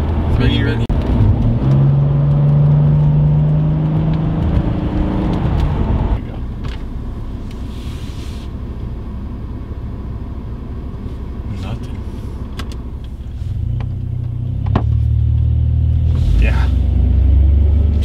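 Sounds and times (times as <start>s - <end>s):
car engine drone: 0.0s - 18.0s
road rumble: 0.0s - 18.0s.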